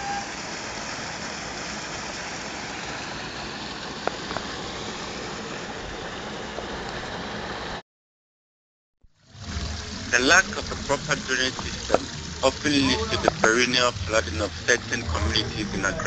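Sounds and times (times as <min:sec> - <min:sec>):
street ambience: 0:00.0 - 0:07.8, 0:09.2 - 0:16.0.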